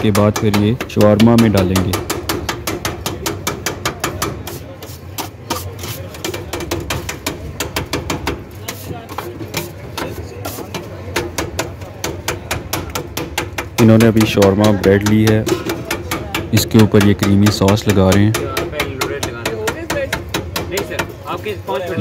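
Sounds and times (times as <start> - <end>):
background chatter: 0.0 - 22.0.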